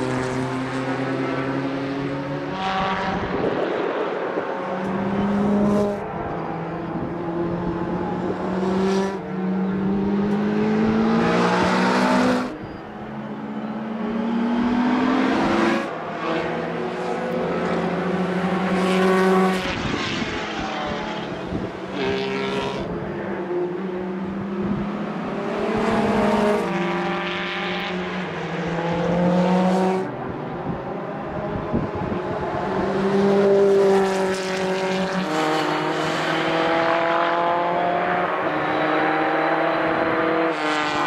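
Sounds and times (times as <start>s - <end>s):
racing car engines accelerating: 0.0s - 41.0s.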